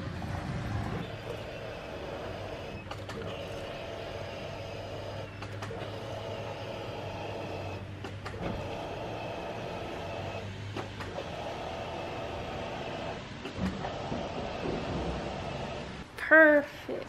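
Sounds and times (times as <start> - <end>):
electric fuel pump humming: 0.9 - 16.1.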